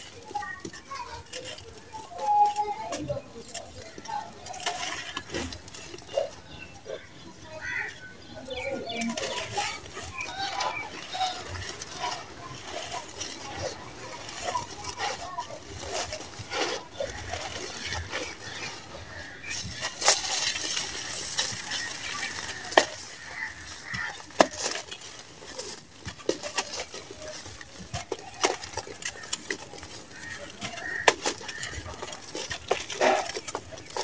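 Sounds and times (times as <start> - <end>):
sand-cement lumps crunching: 0.0 - 34.0.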